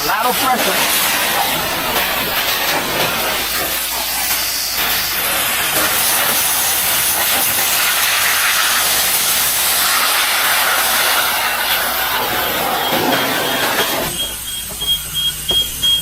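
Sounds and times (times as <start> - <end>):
pressure washer spraying water: 0.0 - 16.0.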